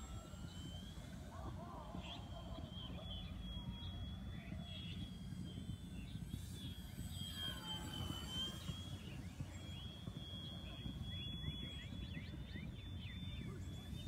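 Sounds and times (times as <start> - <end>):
model plane motor whine: 0.0 - 14.0.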